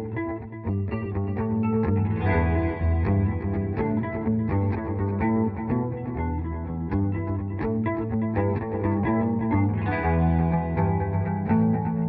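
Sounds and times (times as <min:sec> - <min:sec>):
guitar background music: 0:00.0 - 0:12.0
low bass line: 0:00.0 - 0:12.0.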